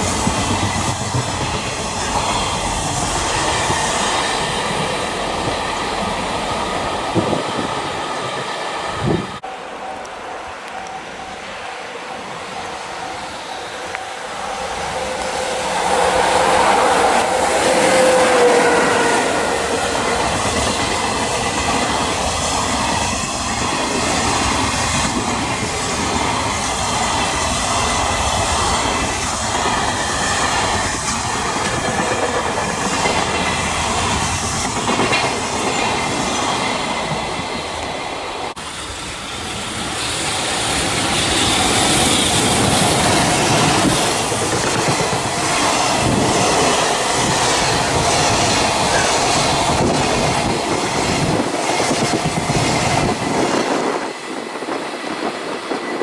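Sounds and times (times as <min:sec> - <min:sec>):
train passing with rumble: 0:00.0 - 0:56.0.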